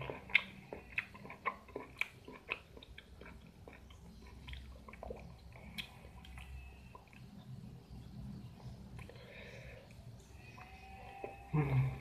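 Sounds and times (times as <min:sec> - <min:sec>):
person chewing with wet crunching: 0:00.0 - 0:12.0.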